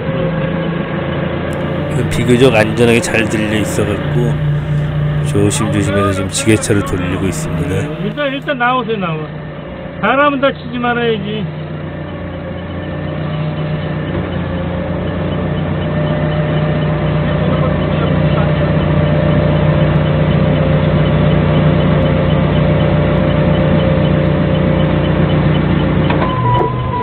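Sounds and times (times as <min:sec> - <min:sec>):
electronic sensor beeps: 0:01.5 - 0:08.5, 0:12.3 - 0:27.0
forklift engine running: 0:01.5 - 0:08.5, 0:11.6 - 0:27.0.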